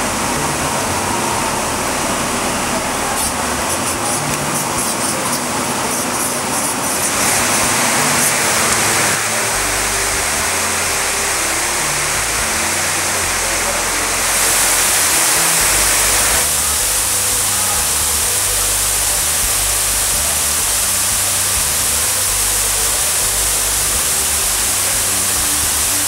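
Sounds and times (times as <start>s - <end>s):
rushing water: 0.0s - 26.0s
soft background music: 0.0s - 26.0s.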